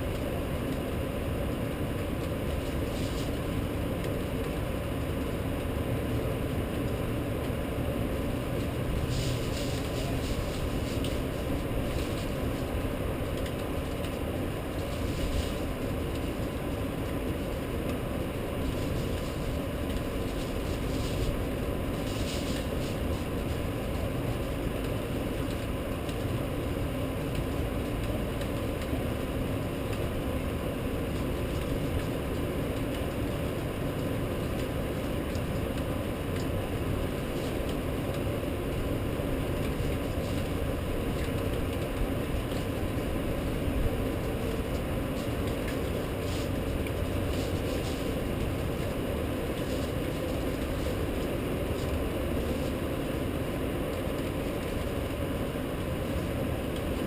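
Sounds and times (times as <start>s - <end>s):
faint steady hum: 0.0s - 57.0s
rainstorm rumble: 0.0s - 57.0s.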